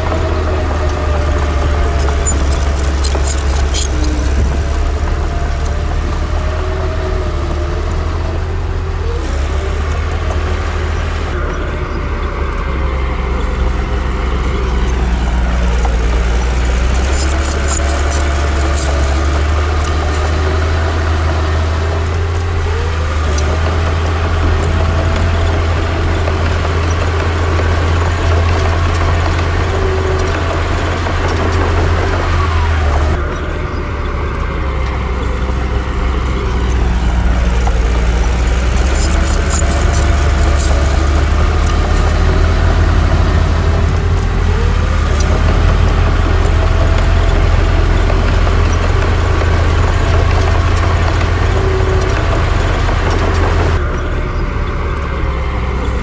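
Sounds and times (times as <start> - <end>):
bulldozer diesel engine working: 0.0 - 56.0
faint metallic clinks: 0.8 - 7.0, 9.8 - 56.0.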